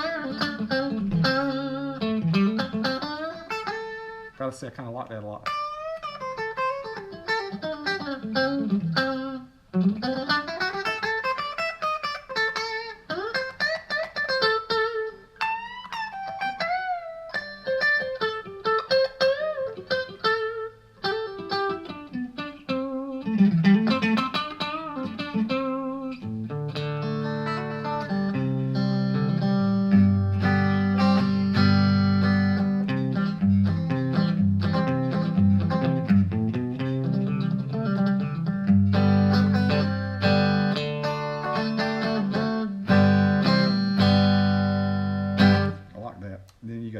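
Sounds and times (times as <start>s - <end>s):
clean electric guitar blues lines: 0.0s - 4.4s, 5.2s - 46.1s.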